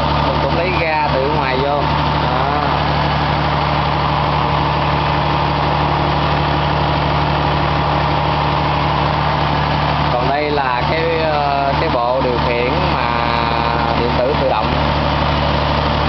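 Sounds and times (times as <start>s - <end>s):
engine humming steadily: 0.0s - 16.0s.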